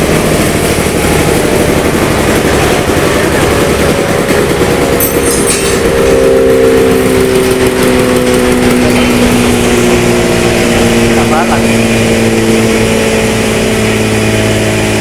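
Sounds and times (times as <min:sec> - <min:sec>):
steady multi-tone hum: 0:00.0 - 0:15.0
wood chipper running: 0:00.0 - 0:15.0.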